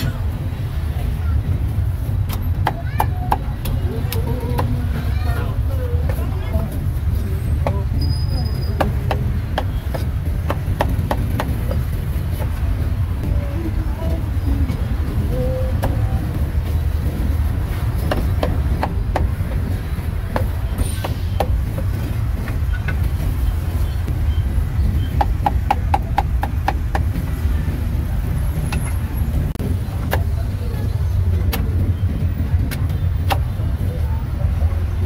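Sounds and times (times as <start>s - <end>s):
low rumble of road traffic: 0.0s - 35.0s.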